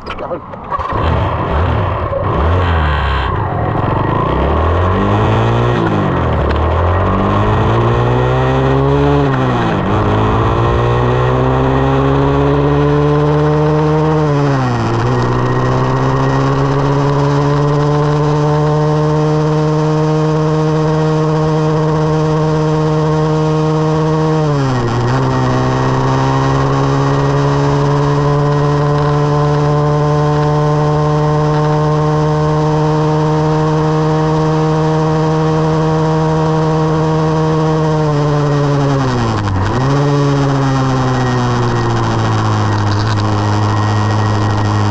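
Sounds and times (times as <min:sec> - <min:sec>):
dirt bike engine running: 0:00.8 - 0:44.9.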